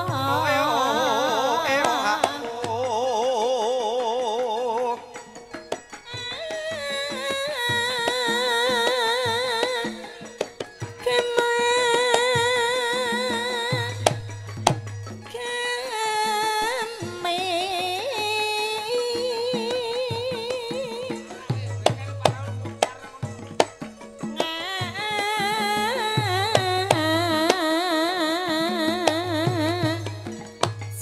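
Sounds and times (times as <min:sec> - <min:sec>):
woman singing with vibrato: 0:00.0 - 0:05.3, 0:06.0 - 0:14.5, 0:15.2 - 0:21.7, 0:24.4 - 0:31.0
gamelan music: 0:00.0 - 0:31.0.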